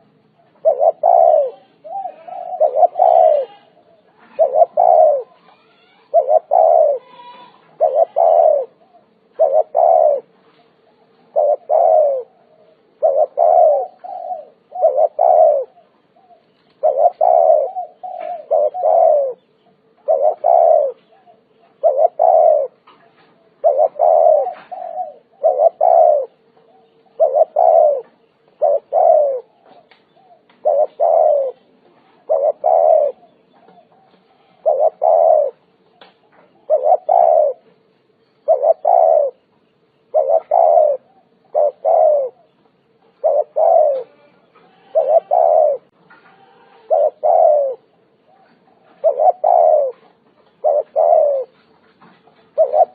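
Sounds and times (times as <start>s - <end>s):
dove cooing: 0.0s - 52.9s
faint steady hum: 0.0s - 52.9s.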